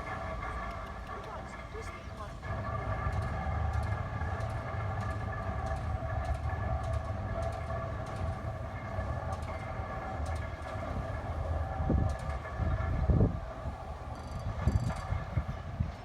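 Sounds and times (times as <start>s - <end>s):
low machinery rumble: 0.0s - 16.0s
machinery whine: 0.0s - 16.0s.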